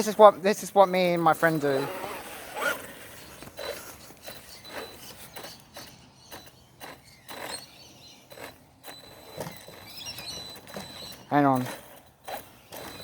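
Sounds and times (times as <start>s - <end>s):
rc truck drivetrain ratcheting: 0.0s - 13.0s.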